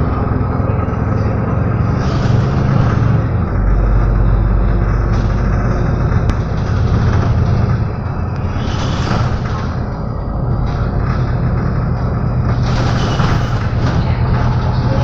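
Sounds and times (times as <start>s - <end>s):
deep low rumble: 0.0s - 15.0s
vehicle engines running: 0.0s - 15.0s.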